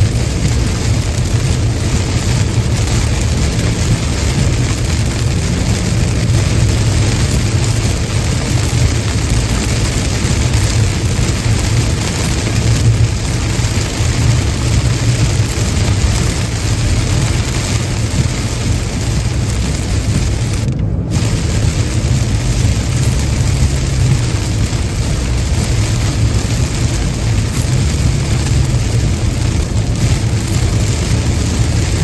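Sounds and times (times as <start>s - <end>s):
rain and tyre spray hiss: 0.0s - 32.0s
road rumble: 0.0s - 32.0s.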